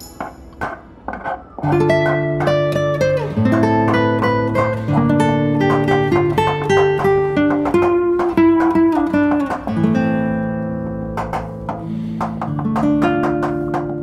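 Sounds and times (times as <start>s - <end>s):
plucked acoustic guitar: 0.0s - 14.0s.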